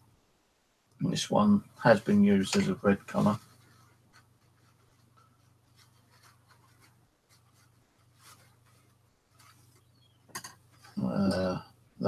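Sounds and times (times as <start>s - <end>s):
low steady hum: 0.0s - 12.0s
paint brush bristles rustling: 1.7s - 11.6s.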